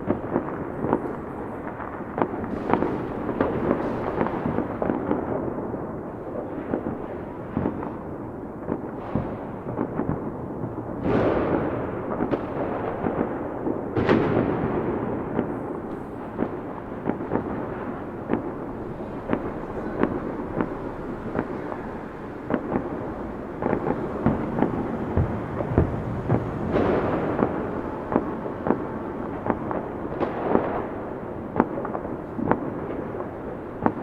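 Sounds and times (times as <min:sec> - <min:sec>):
fireworks cracking and popping: 0:00.0 - 0:34.0
fireworks rumble: 0:00.0 - 0:34.0.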